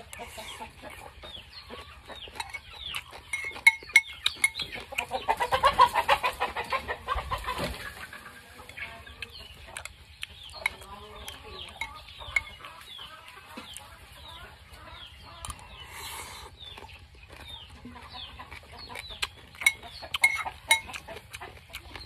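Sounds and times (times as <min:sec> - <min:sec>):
chickens clucking and peeping: 0:00.0 - 0:22.0.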